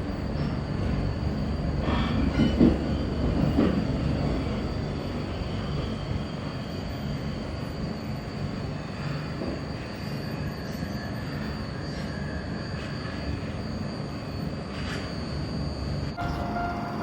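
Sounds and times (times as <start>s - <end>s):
train low rumble: 0.0s - 17.0s
train wheels squealing: 1.8s - 17.0s.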